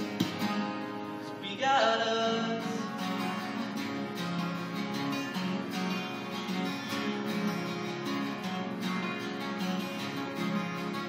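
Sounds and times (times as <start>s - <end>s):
acoustic guitars strumming chords: 0.0s - 11.0s.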